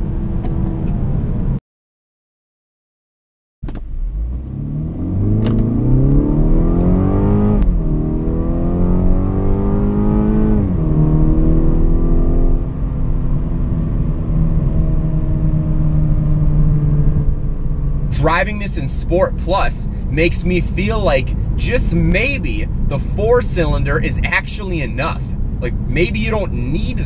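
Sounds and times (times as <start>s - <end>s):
car engine accelerating: 3.6s - 27.0s.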